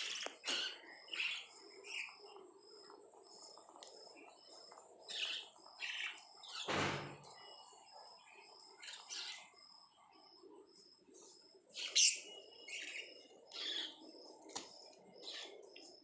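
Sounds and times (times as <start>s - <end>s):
lovebirds chirping: 0.0s - 16.0s.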